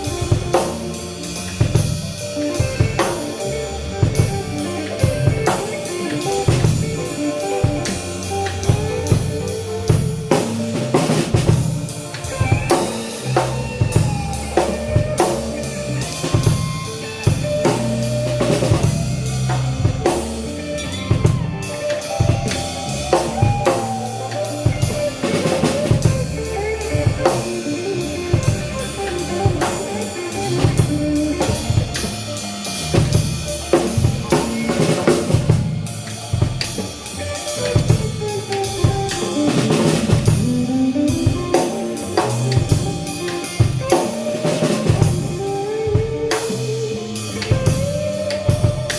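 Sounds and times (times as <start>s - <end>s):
bending melodic lead line: 0.0s - 48.9s
drum kit: 0.0s - 48.9s
steady bass line: 0.0s - 48.9s.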